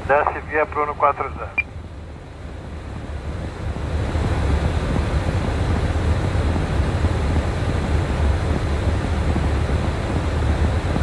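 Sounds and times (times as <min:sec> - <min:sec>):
jet engines idling in cabin: 0:00.0 - 0:11.0.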